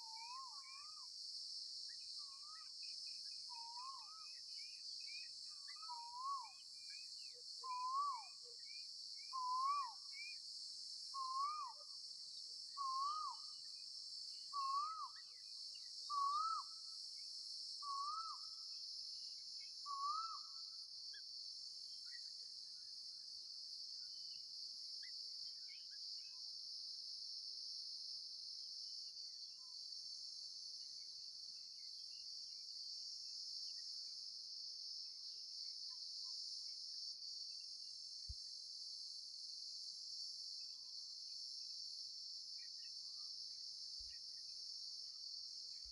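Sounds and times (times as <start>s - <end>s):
high insect hiss: 0.0s - 45.9s.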